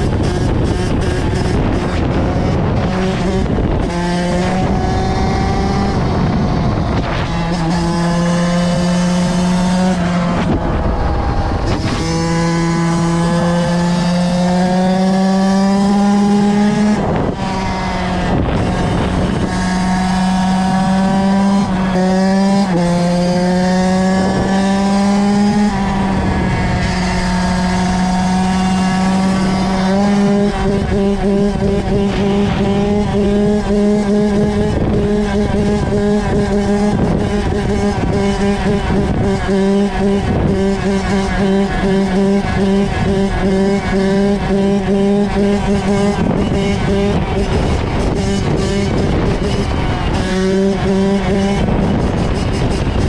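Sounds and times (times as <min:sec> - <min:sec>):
dirt bike engine revving: 0:00.0 - 0:53.0
loud rushing noise: 0:00.0 - 0:53.0.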